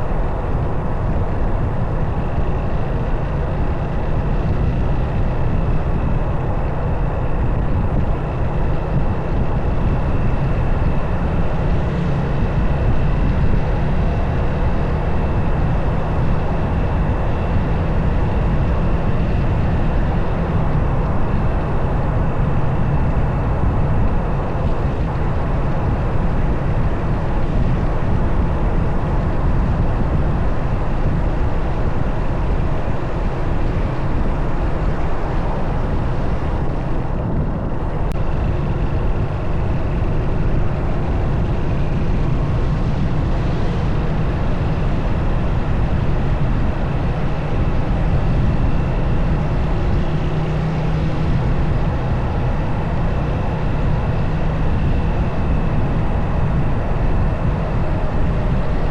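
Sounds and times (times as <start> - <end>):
motorcycle engine running: 0.0 - 58.9
wind rush on microphone: 0.0 - 58.9.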